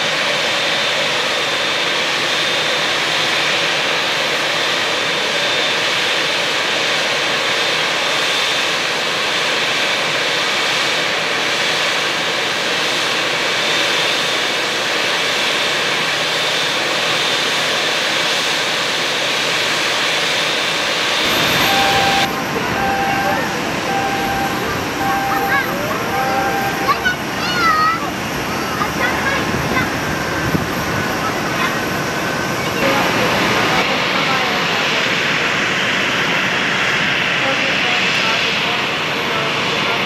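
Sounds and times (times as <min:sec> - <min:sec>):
jet engine whine: 0:00.0 - 0:40.0.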